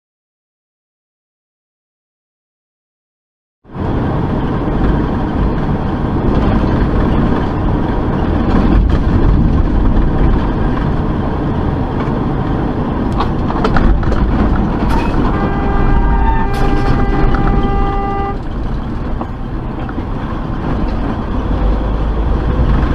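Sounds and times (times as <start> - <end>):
truck engine and road noise: 3.6 - 22.9.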